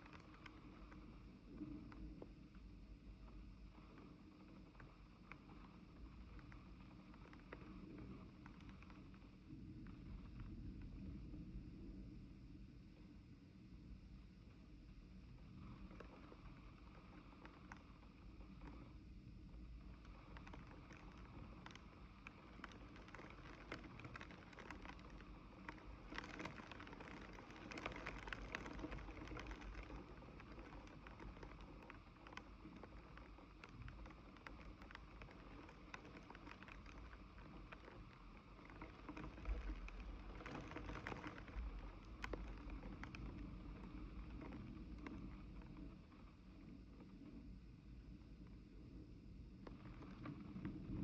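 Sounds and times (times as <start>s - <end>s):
rain drops tapping: 0.0s - 12.0s, 15.2s - 51.0s.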